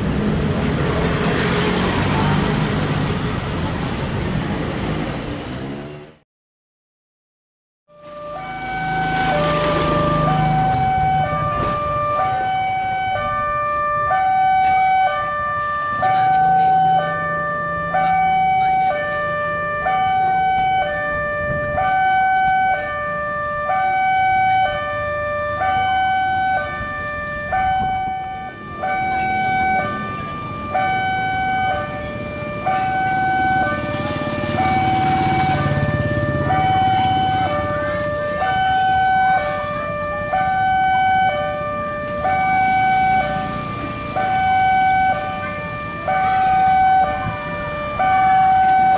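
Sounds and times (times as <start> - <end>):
level crossing alarm two-tone: 7.9 - 48.9.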